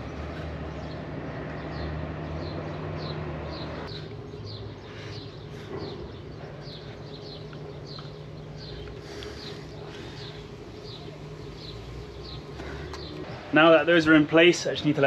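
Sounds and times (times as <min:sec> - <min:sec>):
bird chirping: 0:00.0 - 0:15.0
steady low hum: 0:00.0 - 0:15.0.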